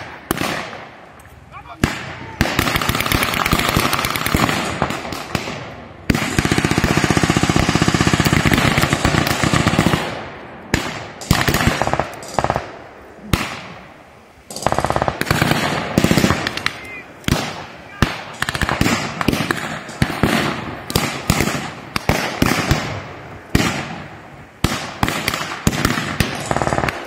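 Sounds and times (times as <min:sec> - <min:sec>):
single rifle shots: 0:00.0 - 0:01.1, 0:01.8 - 0:13.8, 0:14.5 - 0:27.0
machine gun firing bursts: 0:01.8 - 0:12.7, 0:14.5 - 0:24.0, 0:24.6 - 0:27.0.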